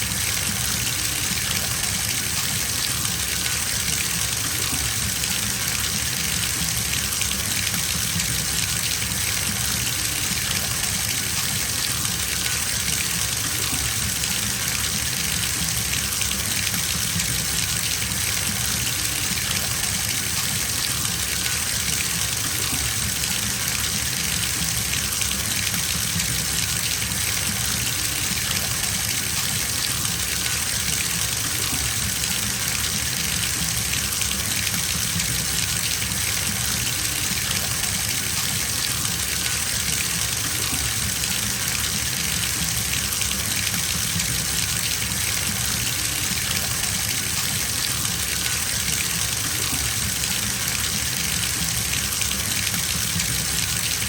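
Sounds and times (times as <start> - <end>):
water pouring into bathtub: 0.0 - 54.0.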